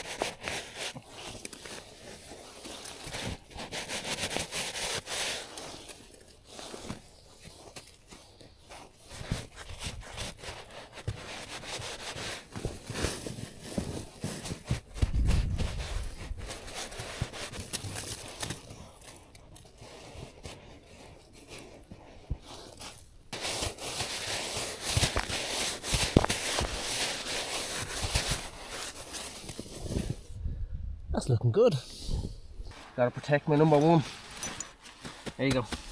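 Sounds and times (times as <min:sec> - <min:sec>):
rustling and scraping handling noise: 0:00.0 - 0:30.4, 0:31.8 - 0:35.9.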